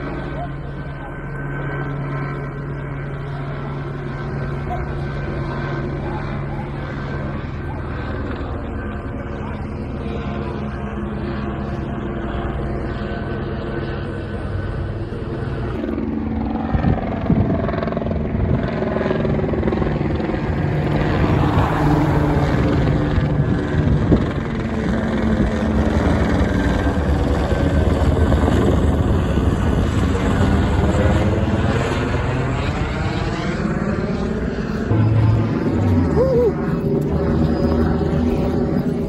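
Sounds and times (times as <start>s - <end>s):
helicopter flying low overhead: 0.0s - 39.0s.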